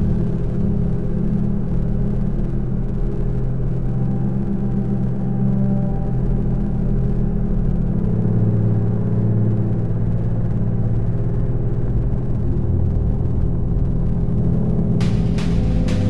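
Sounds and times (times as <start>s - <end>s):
electronic synthesizer drone: 0.0s - 16.0s.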